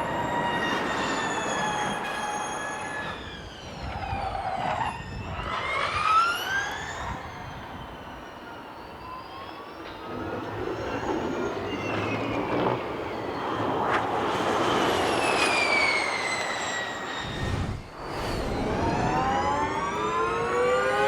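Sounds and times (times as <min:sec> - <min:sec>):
electric race car whine: 0:00.0 - 0:21.0.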